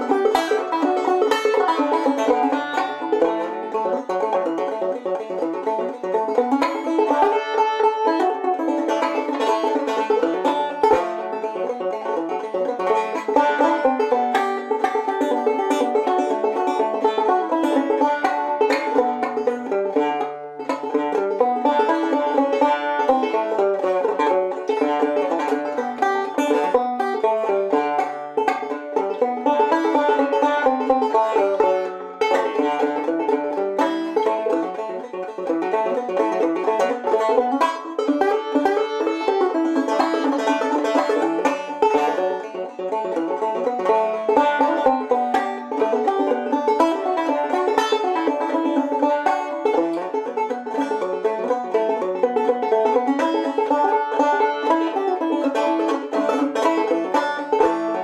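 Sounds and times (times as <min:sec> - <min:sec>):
clawhammer banjo tune: 0:00.0 - 0:58.0.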